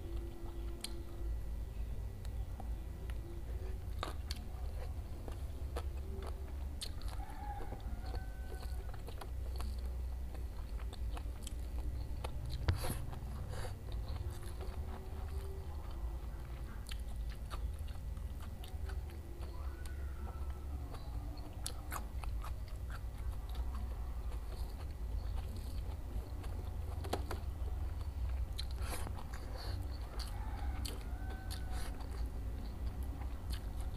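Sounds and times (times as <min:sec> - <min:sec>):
low steady hum: 0:00.0 - 0:33.9
biting and chewing food: 0:02.2 - 0:33.9.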